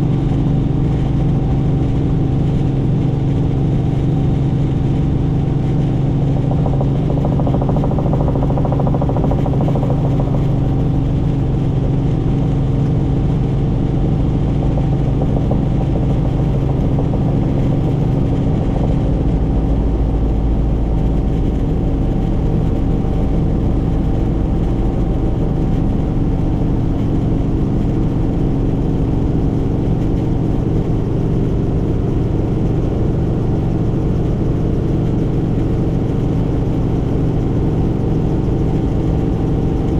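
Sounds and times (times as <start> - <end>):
helicopter rotor drone: 0.0 - 39.9.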